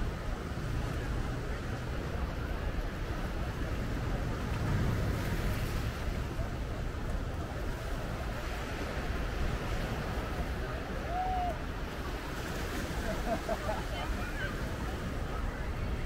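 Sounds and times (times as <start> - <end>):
indistinct chatter of people: 0.0 - 16.0
ocean surf: 0.0 - 16.0.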